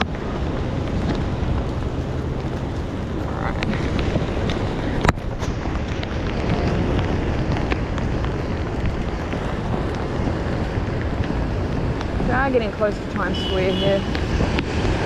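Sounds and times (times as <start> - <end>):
wind and rain on microphone: 0.0 - 15.0.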